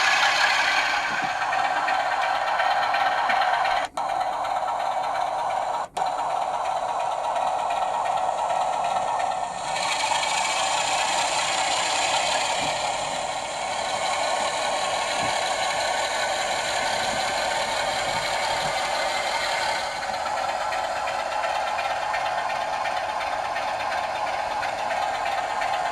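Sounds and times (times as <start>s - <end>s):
diesel engine sound from speaker: 0.0s - 25.9s
model train rattling on track: 0.0s - 25.9s.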